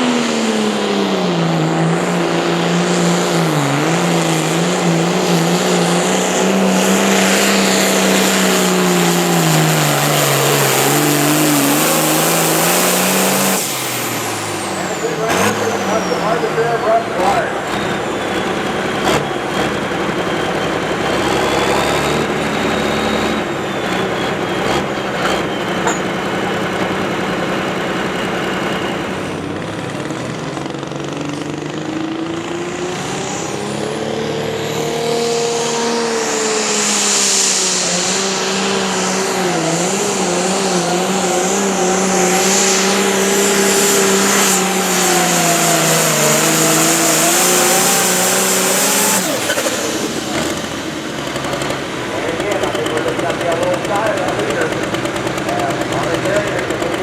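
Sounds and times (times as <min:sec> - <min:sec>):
engine under heavy load: 0:00.0 - 0:57.0.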